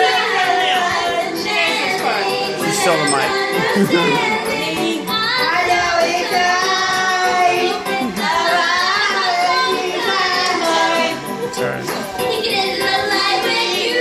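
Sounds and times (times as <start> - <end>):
women singing into a microphone: 0.0 - 14.0
backing music: 0.1 - 14.0.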